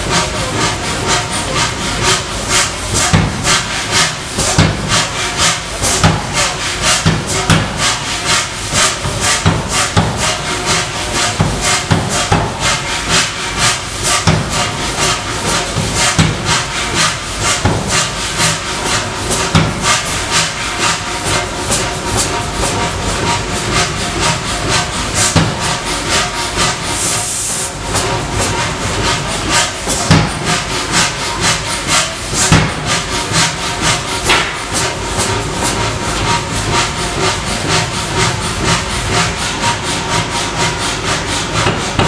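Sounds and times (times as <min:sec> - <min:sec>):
power hammer striking hot steel: 0:00.1 - 0:27.2, 0:27.9 - 0:42.0.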